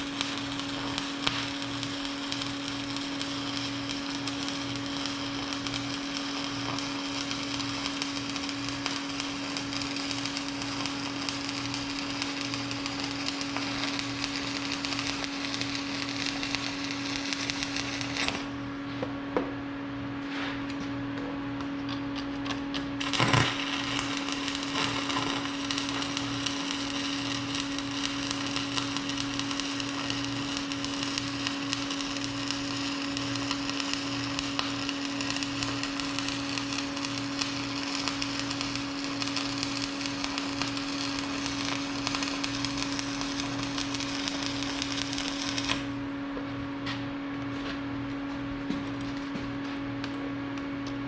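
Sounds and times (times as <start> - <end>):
welding arc crackling: 0.0 - 18.7, 22.7 - 46.1
steady hum: 0.0 - 51.0.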